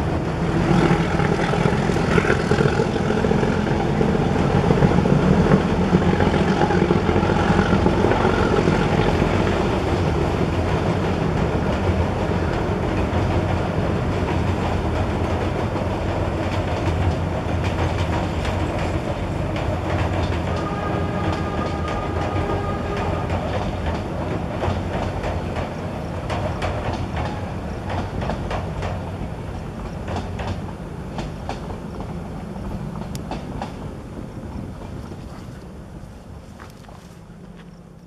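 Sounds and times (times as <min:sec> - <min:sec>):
wheels clacking over rail joints: 0:00.0 - 0:35.8
train rumbling over bridge: 0:00.0 - 0:38.0.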